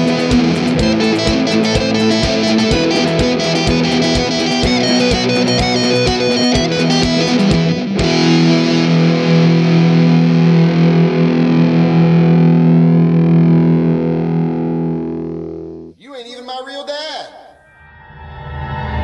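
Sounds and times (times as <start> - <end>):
distorted electric guitar: 0.0 - 16.0
rock drums: 0.0 - 16.0.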